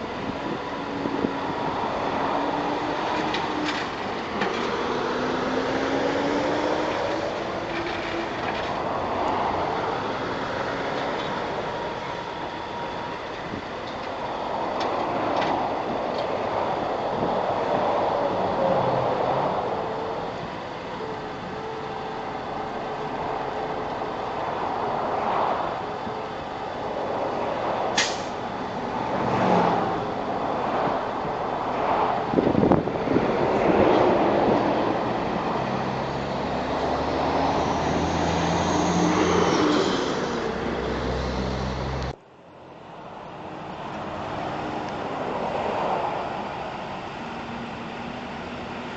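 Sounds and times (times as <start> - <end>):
truck engine rising in pitch: 0.0 - 42.2
highway traffic passing: 0.0 - 48.9.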